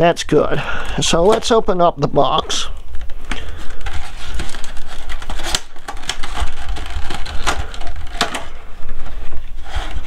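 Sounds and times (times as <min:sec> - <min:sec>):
cardboard packaging rustling: 0:00.8 - 0:10.0.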